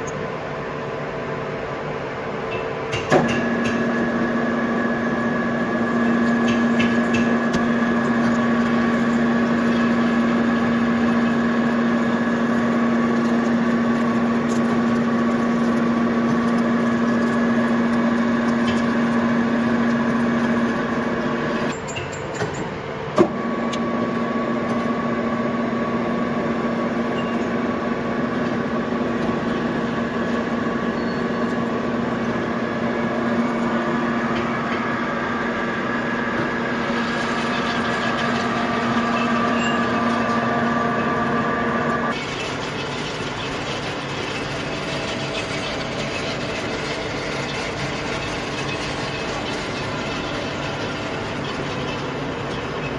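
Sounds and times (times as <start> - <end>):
metal lathe humming: 3.3 - 21.7, 23.4 - 52.9.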